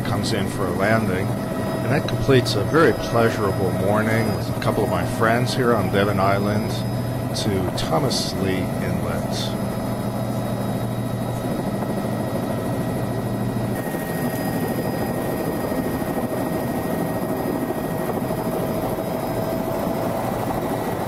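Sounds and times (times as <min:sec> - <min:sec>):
helicopter engine and rotor drone: 0:00.0 - 0:21.0
low hum: 0:00.0 - 0:21.0
thin steady whine: 0:00.0 - 0:21.0.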